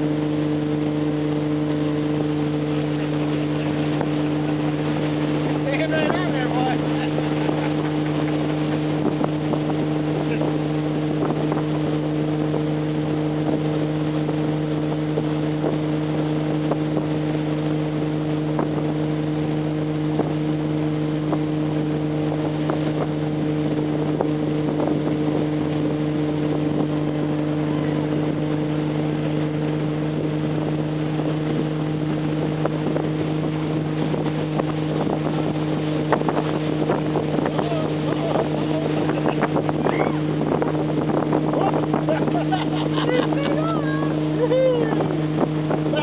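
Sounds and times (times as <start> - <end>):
motorboat engine droning: 0.0 - 46.0
water rushing in wake: 0.0 - 46.0.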